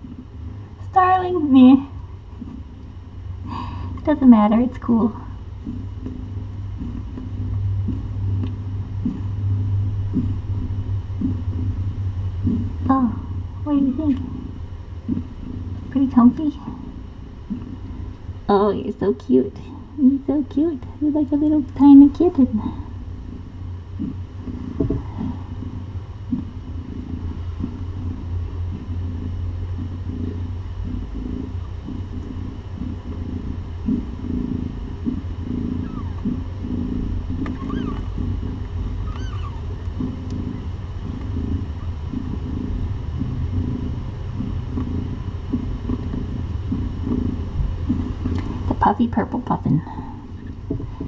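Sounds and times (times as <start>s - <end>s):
cat purring: 0.0s - 51.0s.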